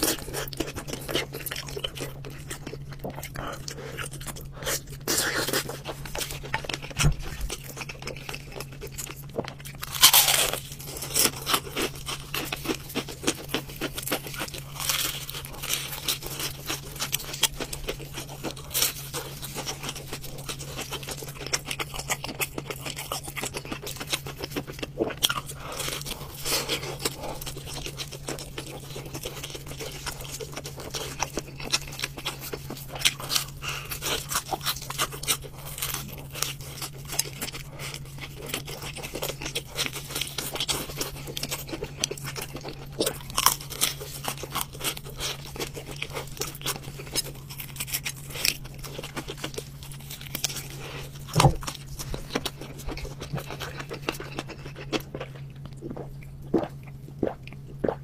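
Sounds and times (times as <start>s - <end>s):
meat tearing: 0.0s - 55.9s
crunching fried chicken: 0.0s - 58.0s
steady low hum: 0.0s - 58.0s.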